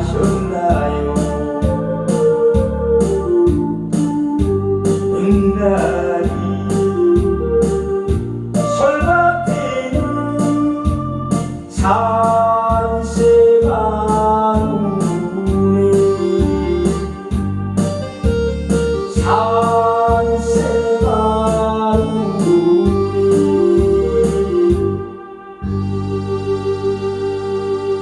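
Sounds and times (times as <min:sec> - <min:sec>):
bass and drum beat: 0:00.0 - 0:25.1
electronic organ melody: 0:00.0 - 0:28.0.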